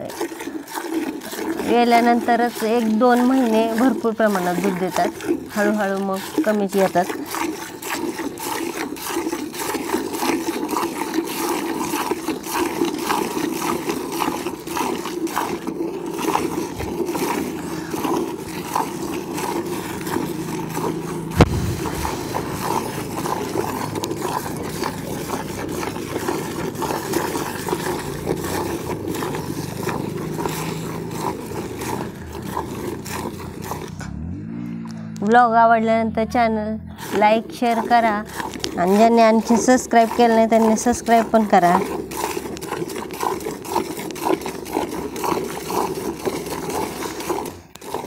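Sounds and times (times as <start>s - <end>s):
milk squirting into a pail: 0.0s - 34.2s, 36.9s - 48.0s.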